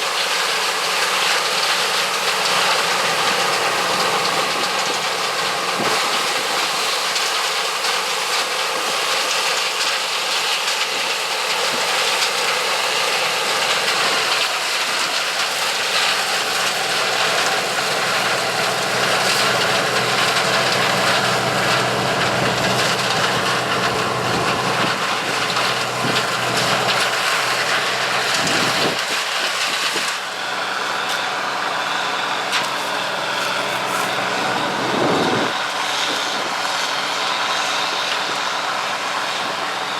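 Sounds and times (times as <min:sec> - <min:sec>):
diesel engine running steadily: 0:00.0 - 0:39.9
loud threshing hiss: 0:00.0 - 0:39.9.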